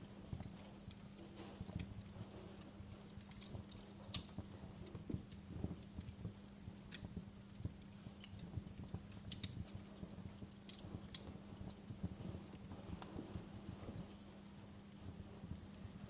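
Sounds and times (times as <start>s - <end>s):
faint steady hum: 0.0s - 16.0s
wood fire crackling: 0.0s - 16.0s.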